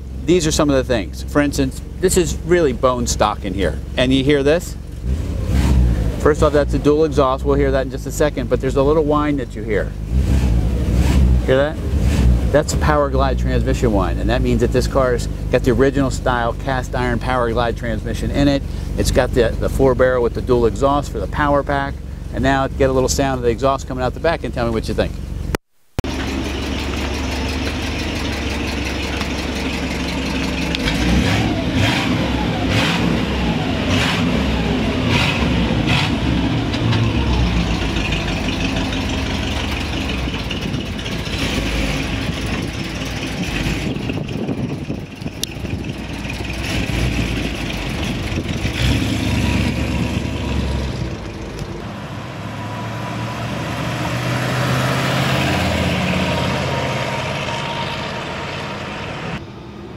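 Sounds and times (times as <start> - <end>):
car engine revving and driving: 0.0 - 59.9.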